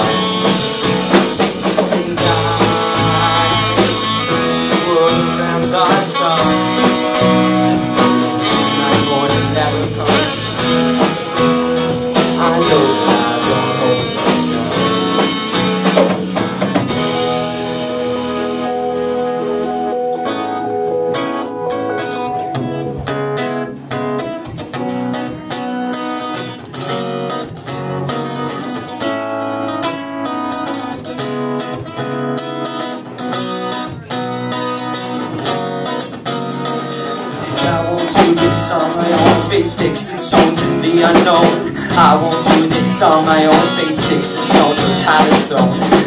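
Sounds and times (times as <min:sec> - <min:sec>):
acoustic guitar: 0:00.0 - 0:46.0
live band playing: 0:00.0 - 0:46.0.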